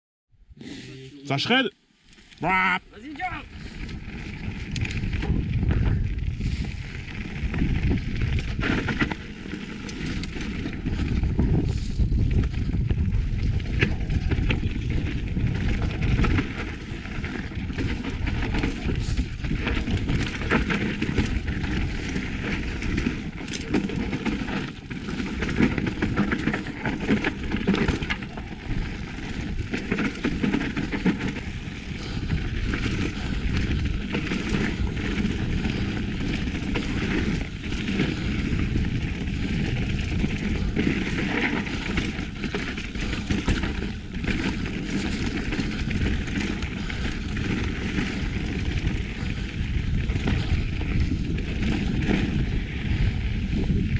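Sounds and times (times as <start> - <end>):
tyre noise on dirt trail: 0.6 - 53.9
wind rush on camera: 1.6 - 53.9
bike knocking and rattling: 3.5 - 53.9.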